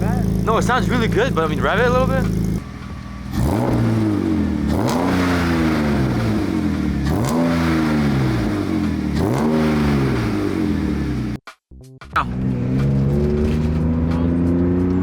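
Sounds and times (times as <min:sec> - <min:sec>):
car engine revving: 0:00.0 - 0:11.4, 0:12.2 - 0:15.0.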